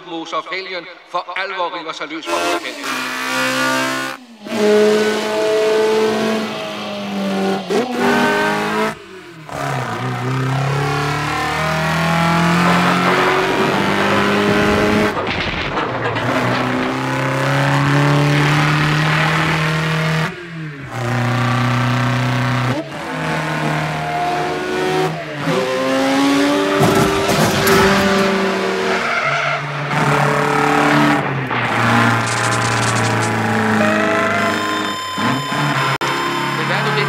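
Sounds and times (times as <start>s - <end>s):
racing car engines at speed: 2.2s - 37.0s.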